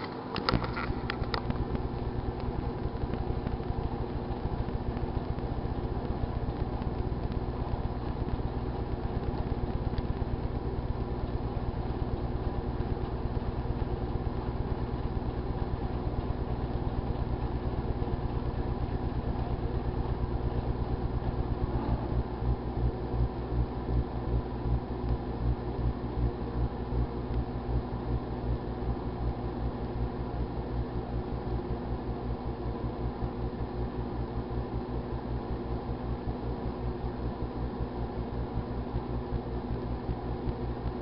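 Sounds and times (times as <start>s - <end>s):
microwave oven humming: 0.0s - 41.0s.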